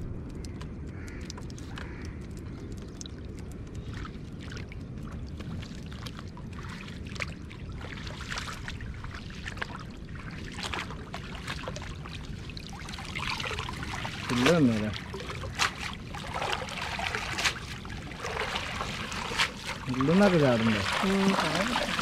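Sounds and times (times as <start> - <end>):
steady low rumble: 0.0 - 22.0
water splashing and sloshing: 0.0 - 22.0.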